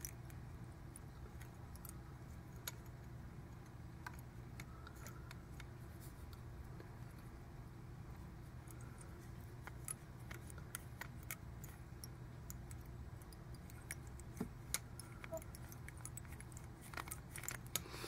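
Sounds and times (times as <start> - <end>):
small clicks and ticks: 0.0 - 7.4, 8.5 - 17.9
low steady hum: 0.0 - 18.0.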